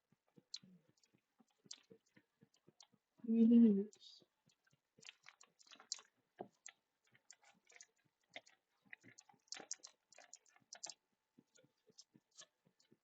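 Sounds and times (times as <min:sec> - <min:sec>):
small clicks and taps: 0:00.0 - 0:03.0, 0:03.9 - 0:13.0.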